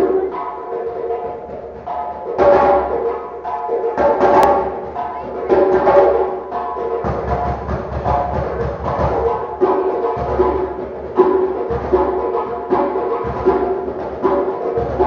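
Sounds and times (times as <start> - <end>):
djembe hand drumming: 0.0 - 15.0.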